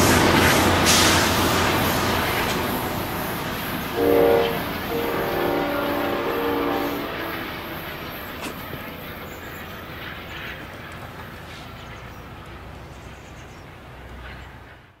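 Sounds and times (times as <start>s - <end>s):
locomotive engine rumbling: 0.0s - 15.0s
train wheels on rails: 0.0s - 15.0s.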